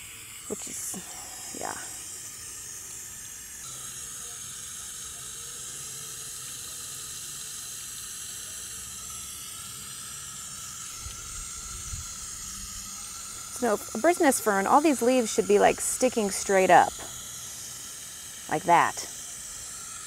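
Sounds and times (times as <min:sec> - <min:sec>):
hose spray hissing: 0:00.0 - 0:05.6, 0:06.8 - 0:20.0.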